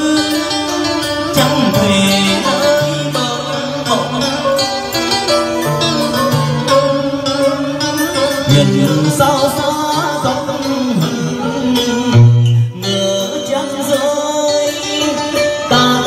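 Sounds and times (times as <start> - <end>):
man singing into microphone: 0.0 - 16.0
plucked string accompaniment: 0.0 - 16.0.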